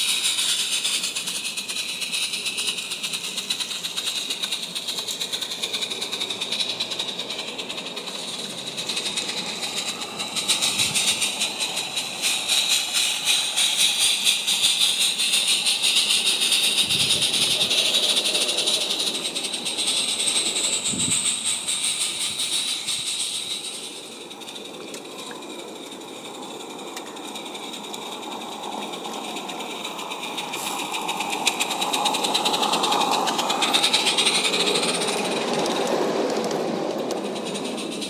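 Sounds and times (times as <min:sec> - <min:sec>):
model train clattering: 0:00.0 - 0:38.0.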